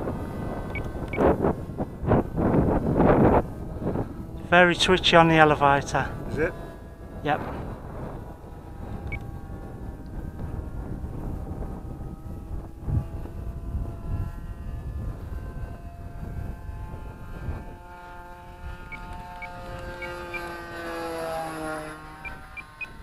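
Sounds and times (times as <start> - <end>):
low rumble: 0.0 - 23.0
model plane engine: 0.0 - 23.0.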